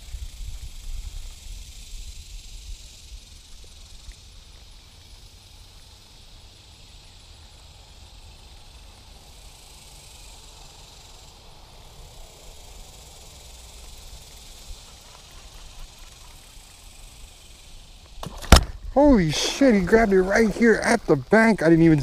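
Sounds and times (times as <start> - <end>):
insects hissing: 0.0 - 22.0.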